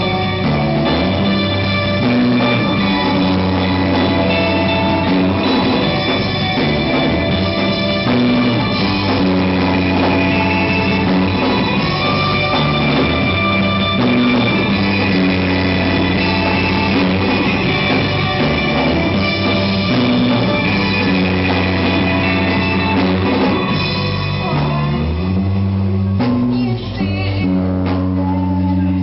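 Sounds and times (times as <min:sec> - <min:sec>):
drum kit: 0:00.0 - 0:29.0
electric guitars: 0:00.0 - 0:29.0.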